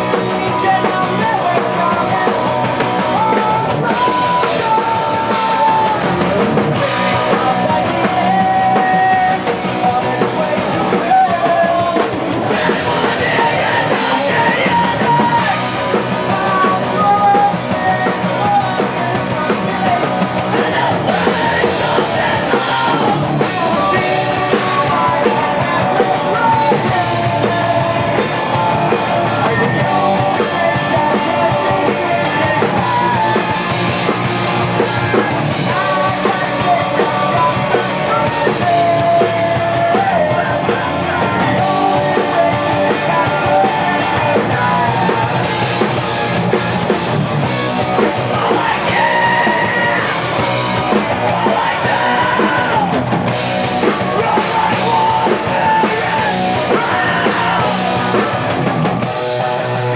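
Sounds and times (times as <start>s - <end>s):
live punk rock band: 0.0s - 59.9s
person singing: 0.0s - 59.9s.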